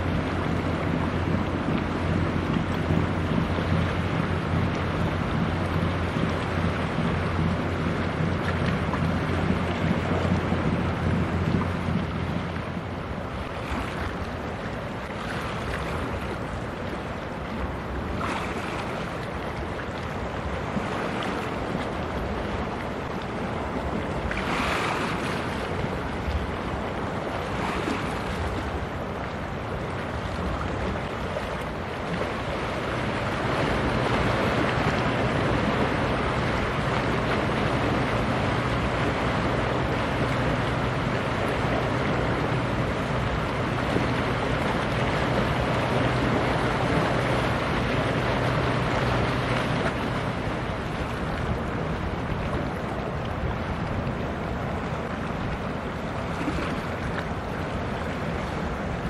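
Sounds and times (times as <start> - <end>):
ship engine hum: 0.0 - 59.0
water noise: 0.0 - 59.0
wind on microphone: 0.0 - 59.0.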